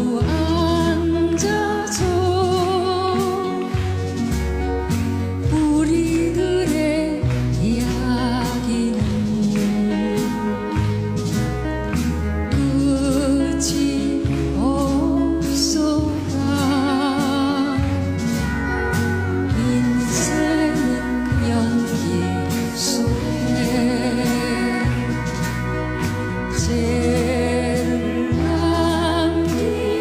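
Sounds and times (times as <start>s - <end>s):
singing with vibrato: 0.0s - 4.3s, 5.4s - 11.3s, 12.3s - 30.0s
bass and backing accompaniment: 0.0s - 30.0s
music with sustained notes: 0.0s - 30.0s.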